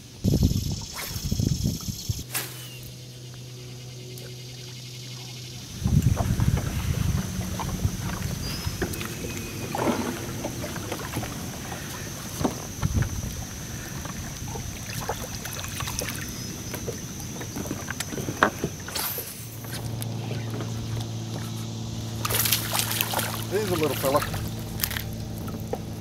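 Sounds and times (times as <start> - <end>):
steady low hum: 0.0 - 26.0
wind and water hiss: 0.0 - 26.0.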